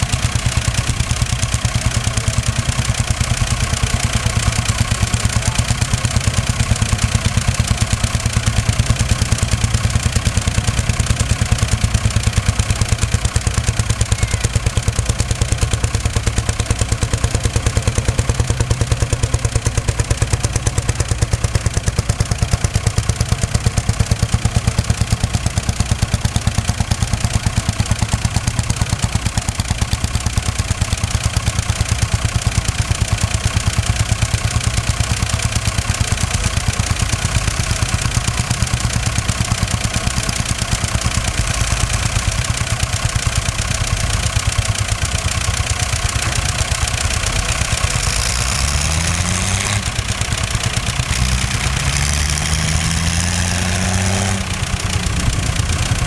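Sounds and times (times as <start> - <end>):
diesel engine revving: 0.0 - 56.0
diesel engines clattering: 0.0 - 56.0.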